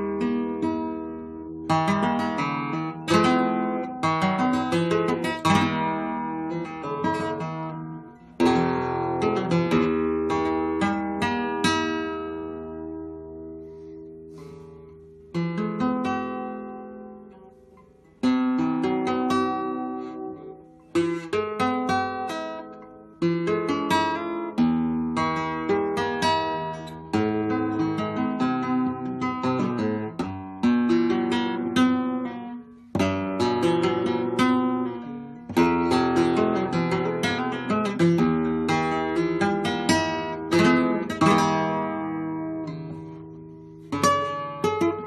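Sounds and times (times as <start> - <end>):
flamenco guitar strummed and plucked: 0.0 - 45.0.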